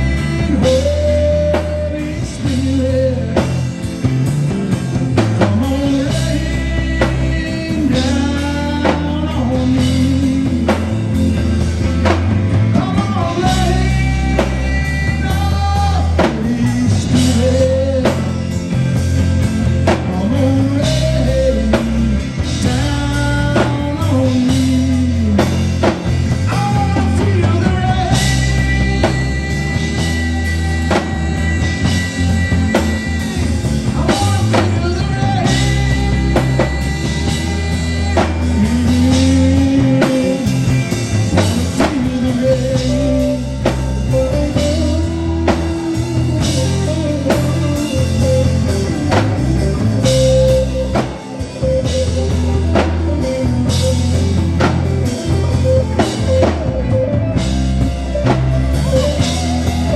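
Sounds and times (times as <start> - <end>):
drum kit beat: 0.0 - 59.9
guitars: 0.0 - 59.9.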